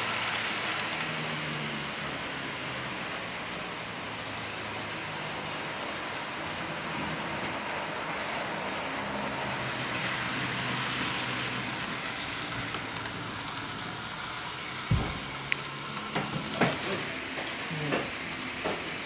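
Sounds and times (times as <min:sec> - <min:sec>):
model train hiss and hum: 0:00.0 - 0:19.0.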